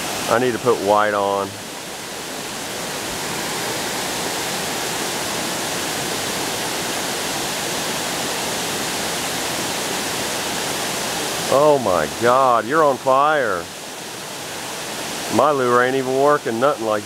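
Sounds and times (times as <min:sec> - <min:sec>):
water rushing over spillway: 0:00.0 - 0:17.0.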